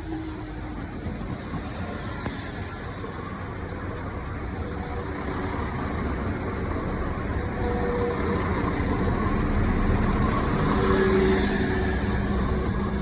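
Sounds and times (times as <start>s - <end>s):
diesel train engine and wheels: 0.0s - 13.0s.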